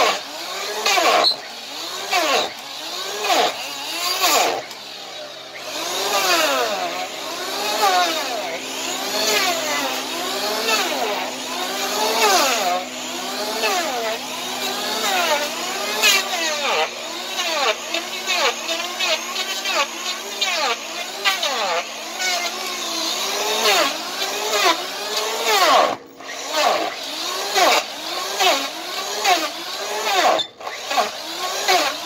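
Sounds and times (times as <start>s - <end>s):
electric planer motor whining: 0.0s - 32.0s.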